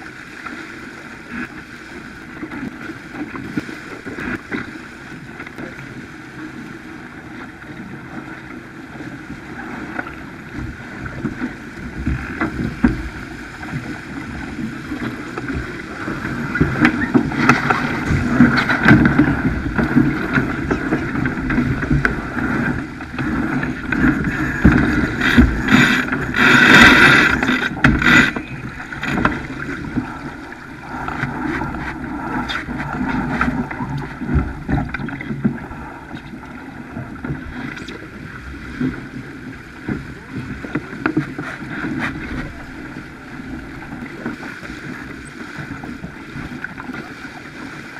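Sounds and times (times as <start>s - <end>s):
water rushing along hull: 0.0s - 47.9s
wind buffeting microphone: 2.3s - 41.1s.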